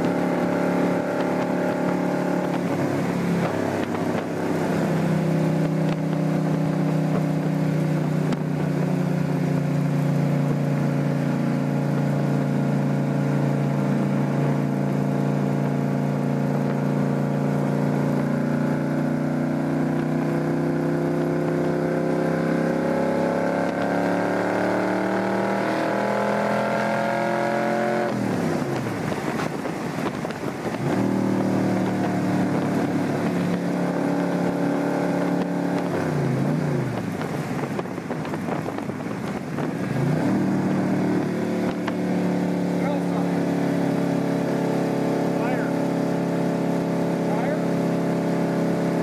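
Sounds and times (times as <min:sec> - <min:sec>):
car engine accelerating: 0:00.0 - 0:49.0
road noise: 0:00.0 - 0:49.0.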